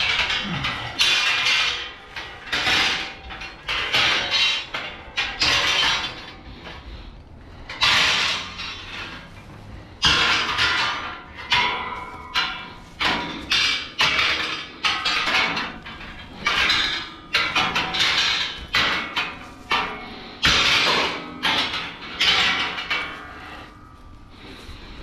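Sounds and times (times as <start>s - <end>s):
sharp clanking metal hits: 0.0s - 6.9s, 7.5s - 25.0s.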